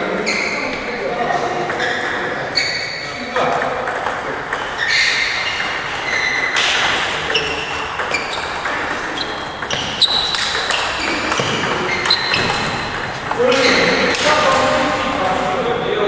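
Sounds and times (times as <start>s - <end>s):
table tennis balls clicking: 0.0s - 2.6s, 3.3s - 15.7s.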